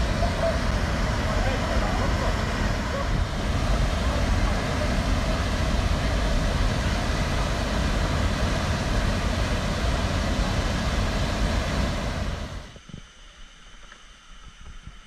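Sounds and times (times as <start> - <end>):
waterfall and rapids roaring: 0.0 - 12.7.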